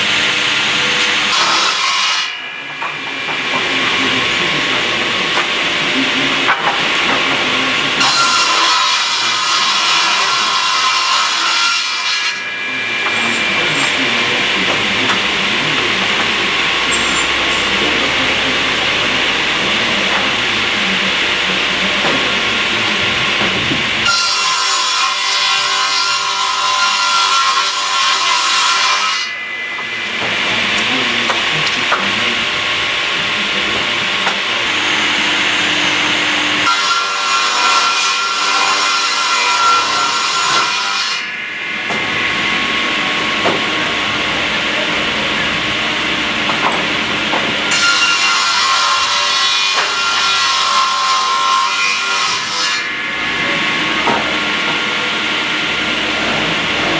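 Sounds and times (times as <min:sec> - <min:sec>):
edging saw running: 0:00.0 - 0:50.3
high blade whine cutting boards: 0:00.0 - 0:56.9.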